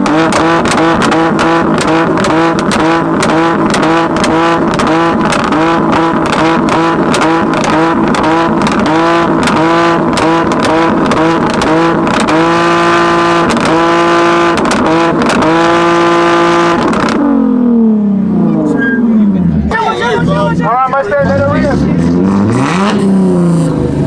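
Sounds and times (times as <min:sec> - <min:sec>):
car engine hitting rev limiter: 0:00.0 - 0:19.7
exhaust popping and crackling: 0:00.0 - 0:24.0.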